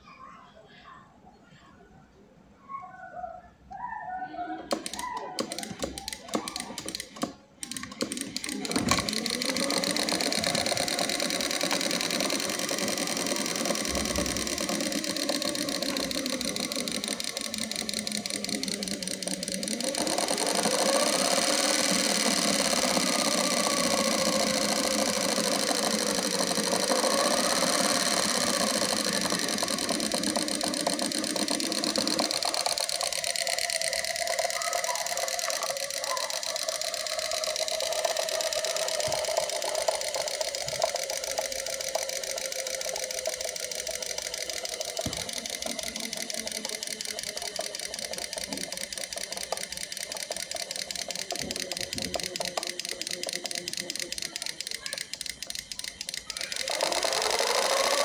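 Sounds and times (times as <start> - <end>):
clicks: 4.5 - 58.0.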